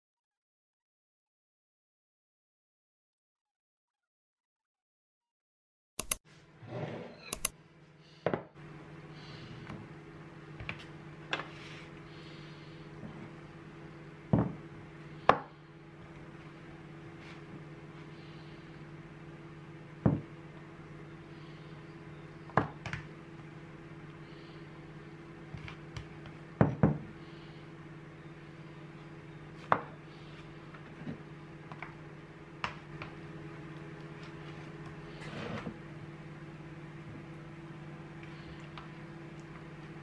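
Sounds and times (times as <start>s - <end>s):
steady low hum: 6.0s - 40.0s.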